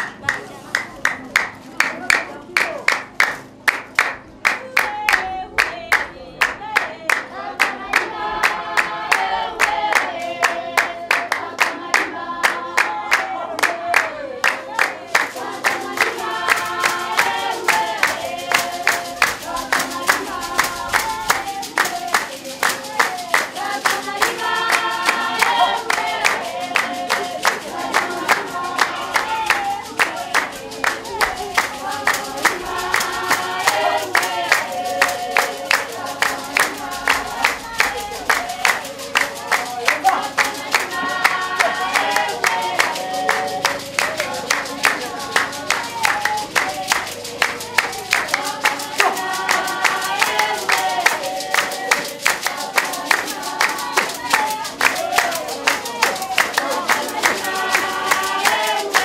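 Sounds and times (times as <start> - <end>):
sharp hand-clapping: 0.0 - 59.0
group of women singing: 3.4 - 59.0.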